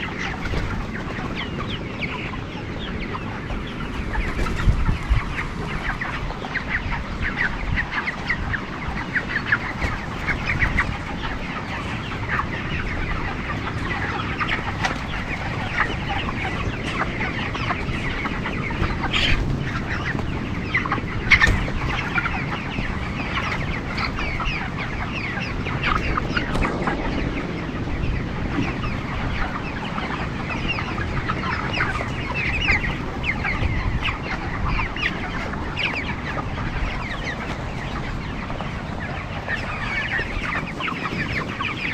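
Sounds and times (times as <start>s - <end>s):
chickens clucking and peeping: 0.0s - 41.9s.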